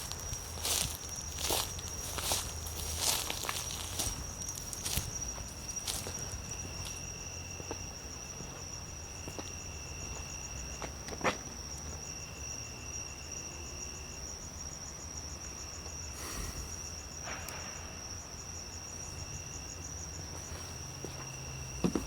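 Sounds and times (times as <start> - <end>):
crickets trilling: 0.0 - 22.0
lower insect trill: 0.0 - 22.0.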